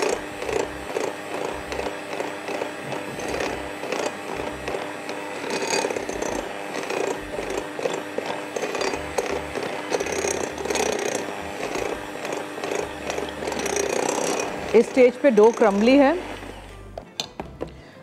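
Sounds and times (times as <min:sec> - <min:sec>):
electric hand mixer running: 0:00.0 - 0:17.0.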